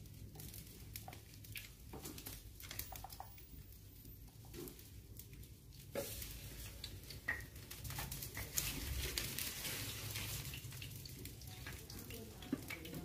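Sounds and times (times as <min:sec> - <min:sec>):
fire crackling and hissing: 0:00.0 - 0:13.0.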